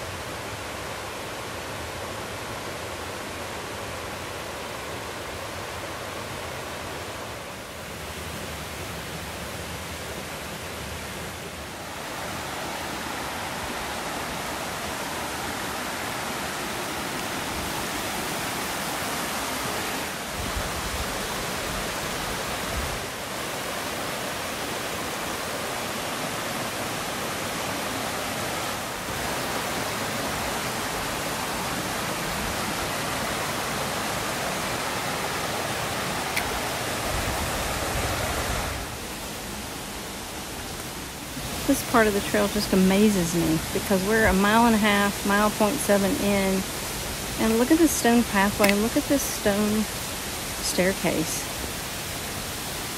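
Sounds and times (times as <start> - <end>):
creek water rushing over rocks: 0.0 - 52.9.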